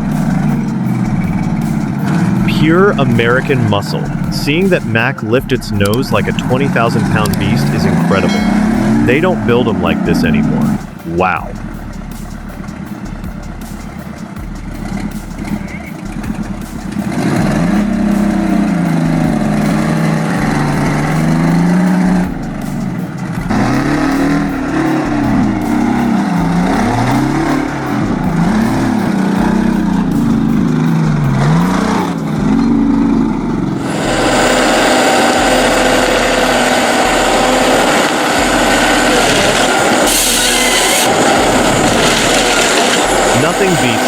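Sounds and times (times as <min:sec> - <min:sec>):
engine revving: 0:00.0 - 0:44.0
harsh mechanical noise: 0:00.0 - 0:44.0.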